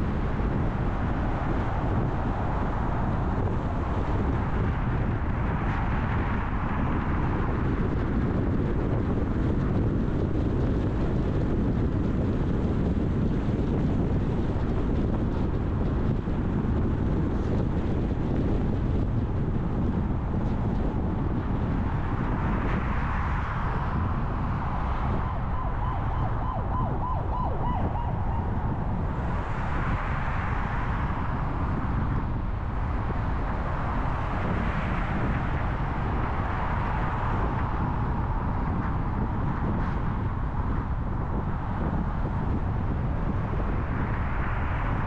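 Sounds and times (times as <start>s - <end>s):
road and engine rumble: 0.0s - 45.0s.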